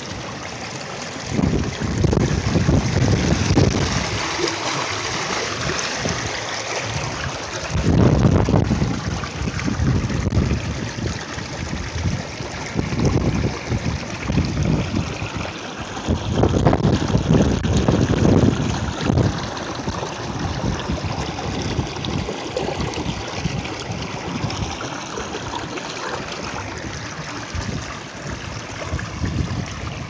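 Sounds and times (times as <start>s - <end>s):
stream trickling over stones: 0.0s - 30.0s
wind gusting on microphone: 1.2s - 24.9s, 26.4s - 30.0s.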